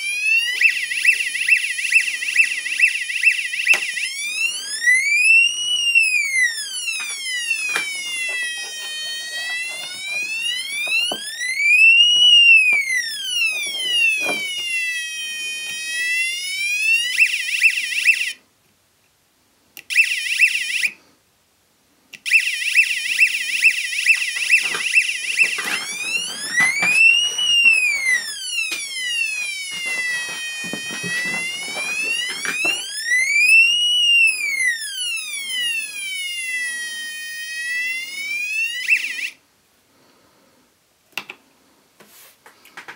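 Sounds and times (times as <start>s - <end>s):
buzzer siren wailing and warbling: 0.0s - 18.4s, 22.3s - 39.4s.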